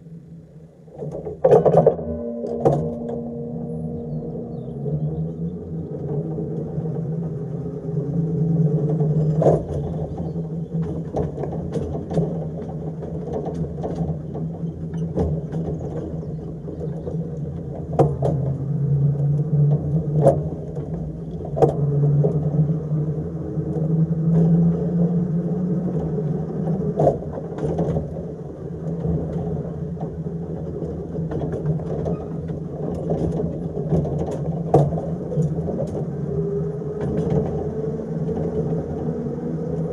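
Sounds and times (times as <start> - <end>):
electric tram motor hum: 0.0 - 39.9
wheels clicking over rail joints: 0.0 - 39.9.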